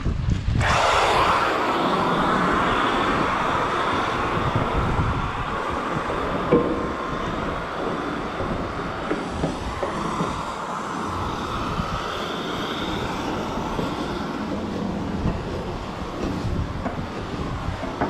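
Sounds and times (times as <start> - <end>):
machinery rumbling: 0.5 - 18.0.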